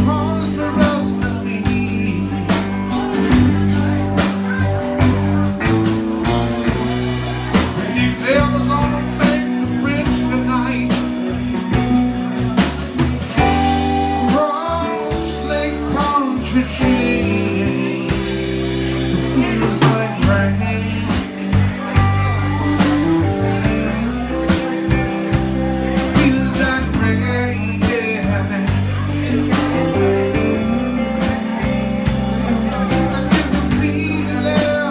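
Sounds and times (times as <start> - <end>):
blues-rock band playing: 0.0 - 34.9
electric guitar lead lines bending: 0.0 - 34.9
steady drum beat: 0.0 - 34.9.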